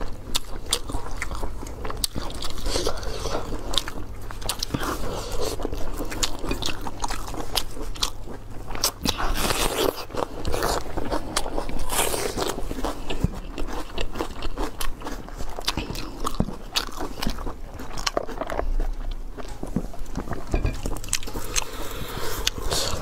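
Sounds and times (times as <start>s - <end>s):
person chewing crisp food: 0.0s - 23.0s.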